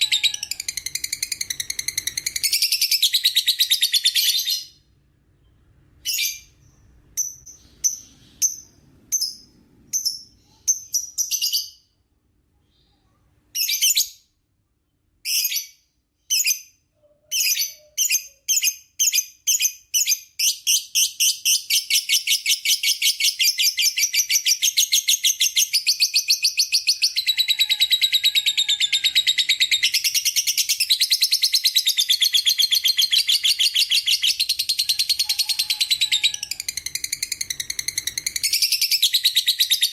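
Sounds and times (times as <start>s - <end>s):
lovebird chirping and chattering: 0.0s - 4.8s, 5.4s - 11.9s, 12.7s - 14.3s, 15.2s - 39.9s.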